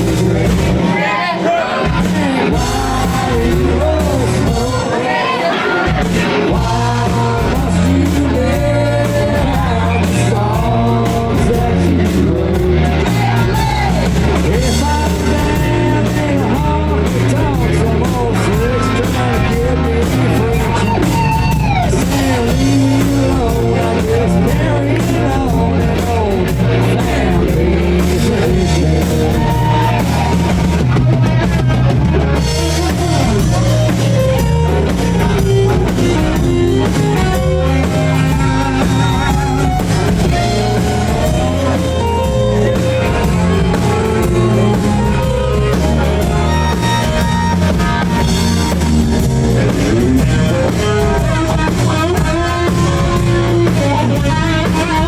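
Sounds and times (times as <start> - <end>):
person singing: 0.0 - 31.0, 32.1 - 55.0
rock band playing: 0.0 - 55.0.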